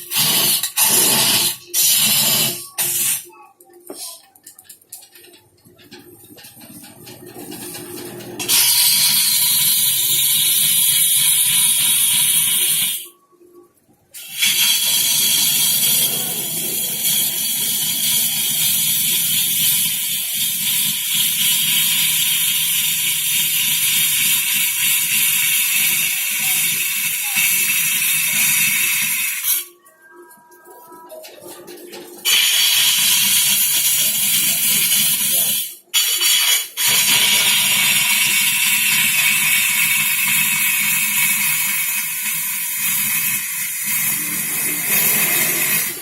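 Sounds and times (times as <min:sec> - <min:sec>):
wood lathe cutting hiss: 0:00.0 - 0:03.2, 0:08.4 - 0:13.0, 0:14.2 - 0:29.7, 0:32.3 - 0:46.0.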